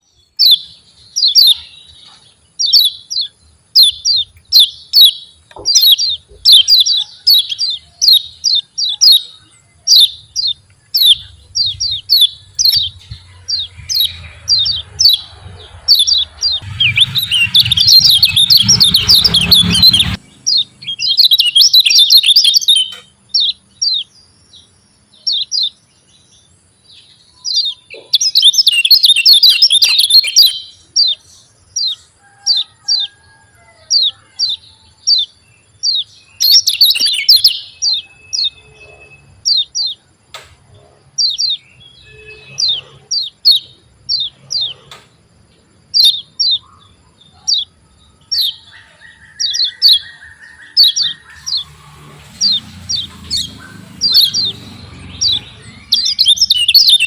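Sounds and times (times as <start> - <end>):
bird sharp chirps: 0.0 - 24.1, 27.0 - 32.0, 34.0 - 40.0, 45.9 - 57.0.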